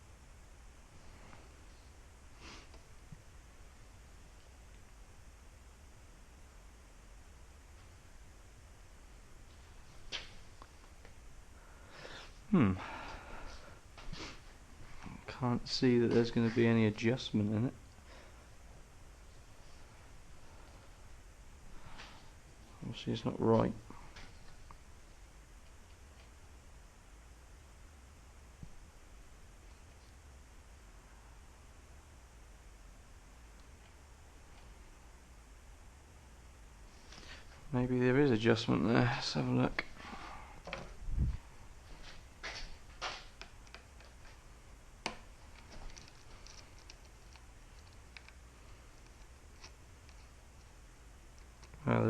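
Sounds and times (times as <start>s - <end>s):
faint room hum: 0.0s - 52.0s.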